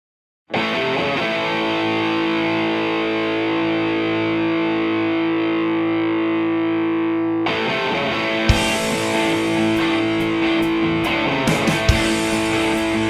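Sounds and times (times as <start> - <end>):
distorted electric guitar chords: 0.5 - 13.0.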